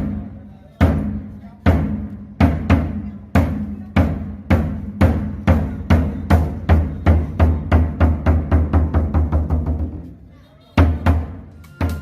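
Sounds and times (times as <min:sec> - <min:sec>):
deep drum beats: 0:00.0 - 0:10.0, 0:10.8 - 0:12.0.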